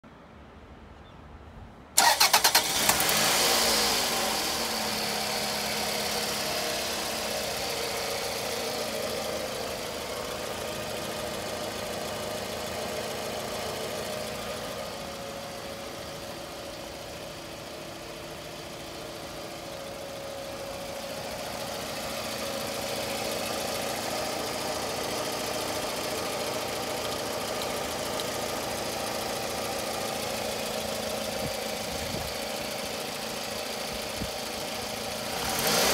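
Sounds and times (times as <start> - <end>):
car engine starting and idling: 2.0 - 35.9.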